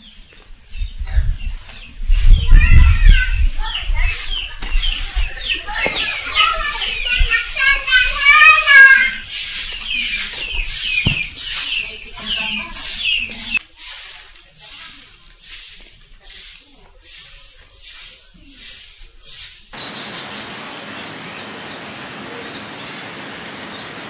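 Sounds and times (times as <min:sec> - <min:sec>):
broom sweeping dirt: 0:00.0 - 0:20.6
steady even hiss: 0:00.1 - 0:24.0.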